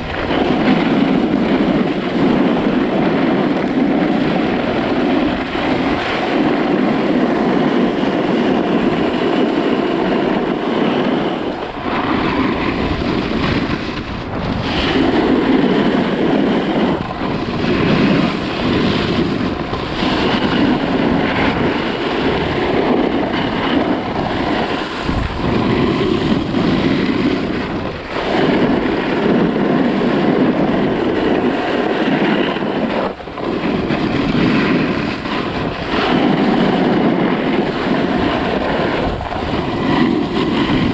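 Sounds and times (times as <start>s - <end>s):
snowboard scraping snow: 0.0s - 40.9s
wind on microphone: 0.0s - 40.9s.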